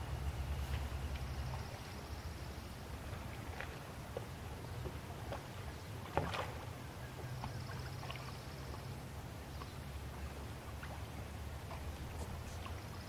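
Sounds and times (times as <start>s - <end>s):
canoe paddles splashing water: 0.0s - 13.0s.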